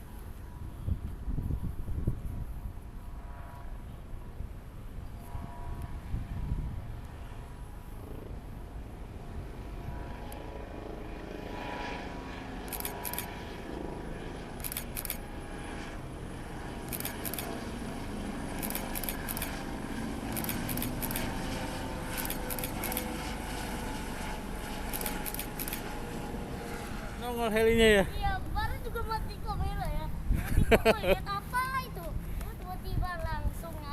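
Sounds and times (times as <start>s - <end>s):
helicopter engine and rotor: 4.6s - 32.6s.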